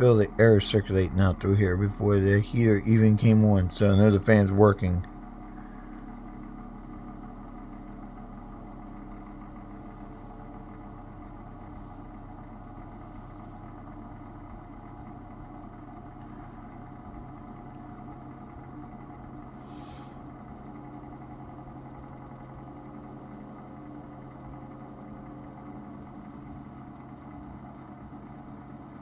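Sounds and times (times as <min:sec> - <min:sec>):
heater fan motor humming: 0:00.0 - 0:29.0.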